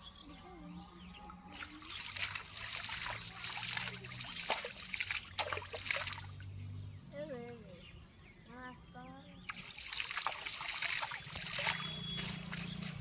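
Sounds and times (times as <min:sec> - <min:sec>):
water splashing and trickling: 0:00.0 - 0:06.9, 0:09.4 - 0:13.0.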